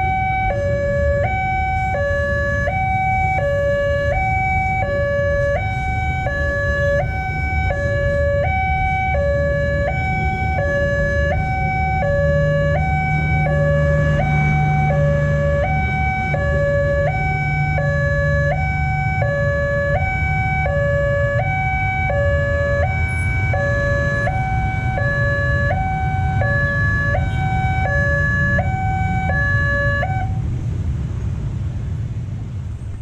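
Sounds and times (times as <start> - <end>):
two-tone warning siren: 0.0 - 30.5.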